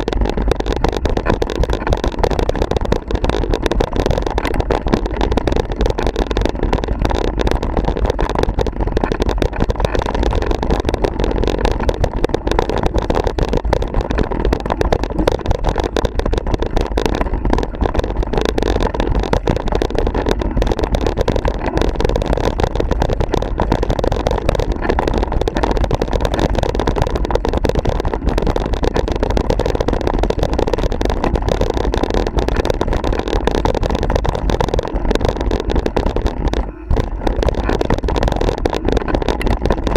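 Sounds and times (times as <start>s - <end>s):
camera rattling: 0.0s - 39.9s
knocks and clatter from bumps: 0.0s - 39.9s.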